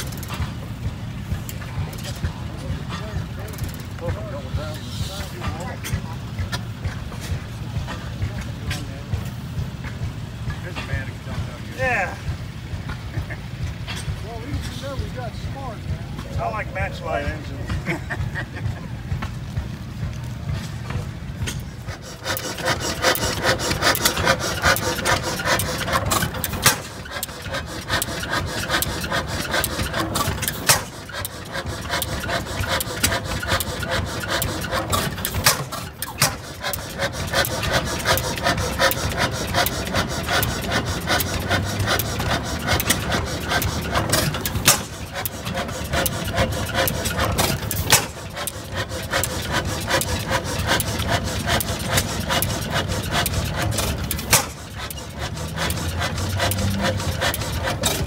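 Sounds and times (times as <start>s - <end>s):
gas engine clattering: 0.0s - 58.0s.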